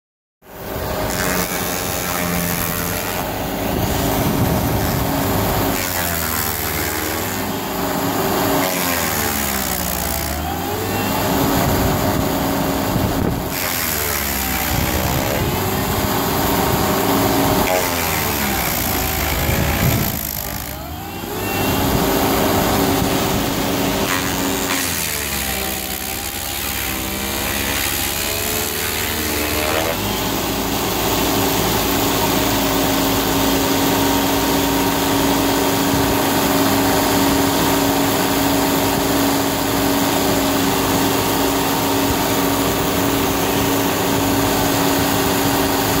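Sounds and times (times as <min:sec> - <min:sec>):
stump grinder grinding log: 0:00.4 - 0:46.0.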